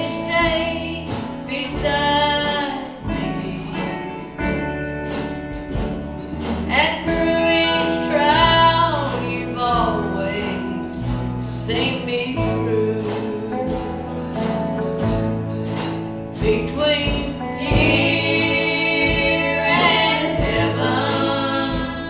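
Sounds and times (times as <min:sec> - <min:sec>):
woman singing gospel: 0:00.0 - 0:05.0, 0:06.7 - 0:14.5, 0:16.3 - 0:22.0
instrumental accompaniment: 0:00.0 - 0:22.0.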